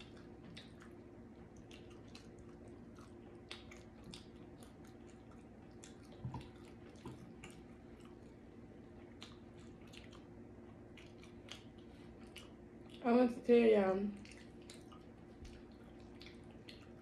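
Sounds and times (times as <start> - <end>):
wet chewing mouth clicks: 0.0 - 8.4, 9.0 - 13.0, 14.2 - 17.0.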